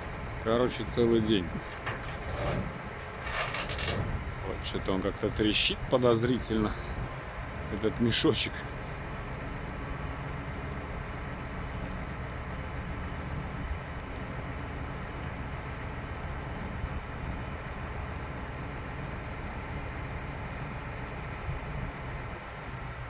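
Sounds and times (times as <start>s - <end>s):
diesel engine drone: 0.0s - 23.0s.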